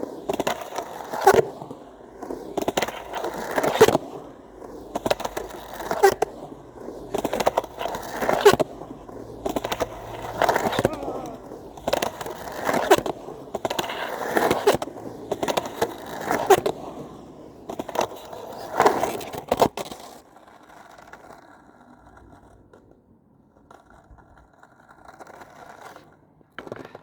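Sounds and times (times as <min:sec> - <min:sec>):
skateboard clacks and impacts: 0:00.0 - 0:20.0, 0:23.6 - 0:27.0
skateboard wheels rolling: 0:00.0 - 0:27.0.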